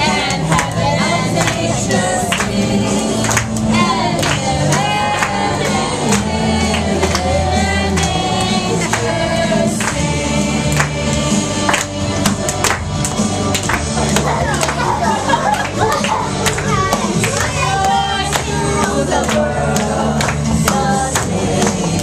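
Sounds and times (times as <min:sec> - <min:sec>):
choir singing gospel song: 0:00.0 - 0:13.9, 0:17.1 - 0:22.0
bass and drum beat: 0:00.0 - 0:22.0.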